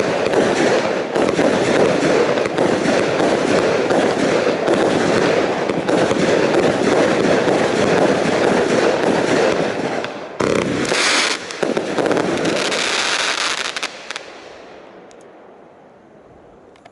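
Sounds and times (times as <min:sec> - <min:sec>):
firework crackling: 0:00.0 - 0:14.7
firework shots: 0:00.0 - 0:14.8.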